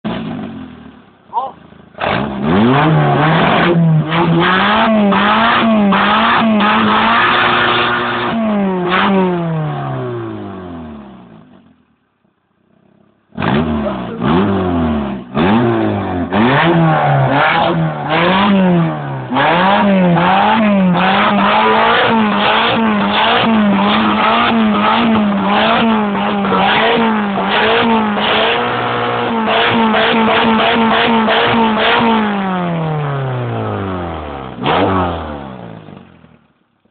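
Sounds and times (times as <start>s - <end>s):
car engine revving: 0.1s - 11.8s, 12.7s - 36.5s.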